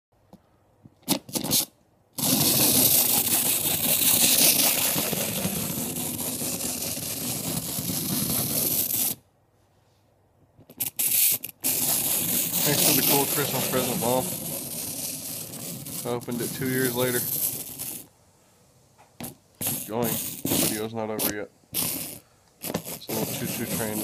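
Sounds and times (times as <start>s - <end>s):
toy train motor whirring: 1.1s - 9.2s, 10.7s - 18.1s, 19.2s - 24.0s.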